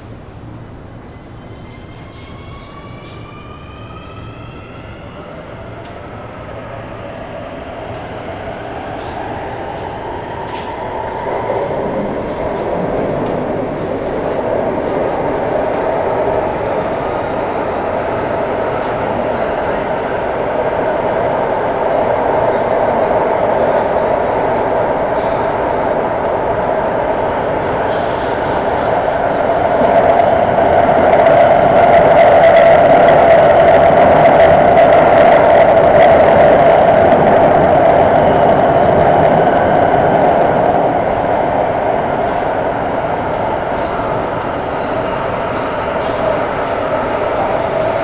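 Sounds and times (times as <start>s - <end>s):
train wheels on rail in tunnel: 0.0s - 48.0s.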